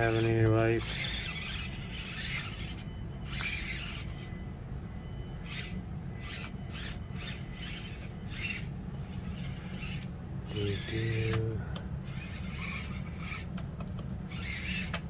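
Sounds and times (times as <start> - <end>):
rc car whirring and scraping: 0.0 - 4.3, 5.4 - 15.0
low steady hum: 0.0 - 15.0.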